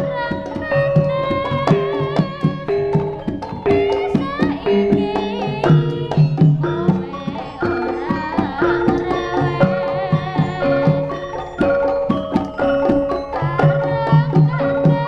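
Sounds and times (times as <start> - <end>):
hand drums beating quick rhythm: 0.0 - 15.0
ringing metallophone notes: 0.0 - 15.0
wavering high melody: 0.0 - 15.0.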